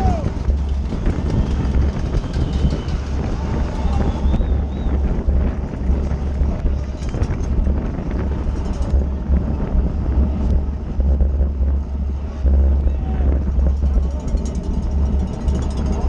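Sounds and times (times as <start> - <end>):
road and tyre noise: 0.0 - 16.0
wind buffeting microphone: 0.0 - 16.0.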